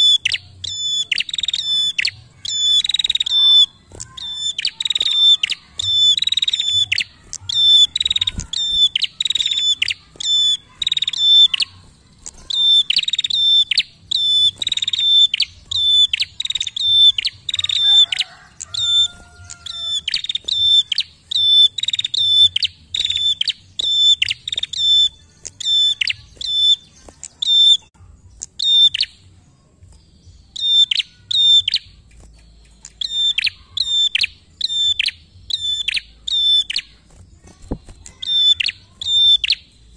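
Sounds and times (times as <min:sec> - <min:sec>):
caged bird singing: 0:00.0 - 0:39.9.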